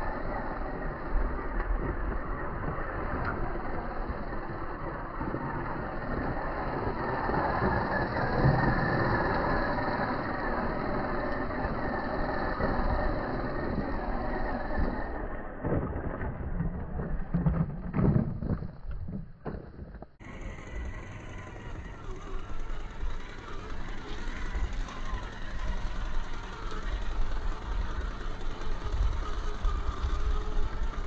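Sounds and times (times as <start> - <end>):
electric motor and gears running: 0.0 - 15.6, 17.9 - 31.0.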